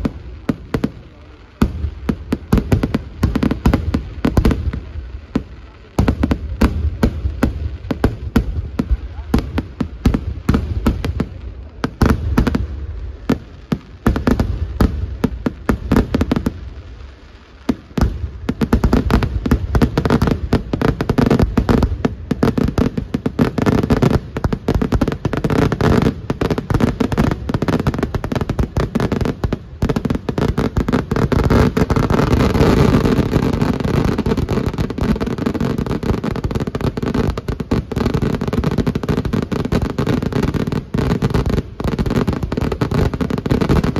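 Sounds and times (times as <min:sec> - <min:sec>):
fireworks explosions and crackling: 0:00.0 - 0:43.9.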